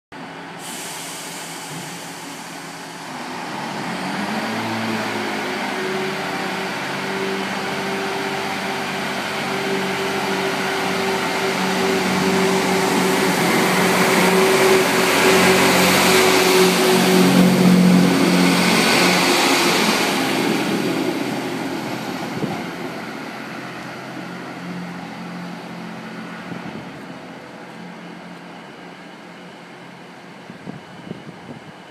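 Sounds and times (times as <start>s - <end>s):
diesel train engines revving: 0.2s - 31.9s
train passing: 0.2s - 31.9s.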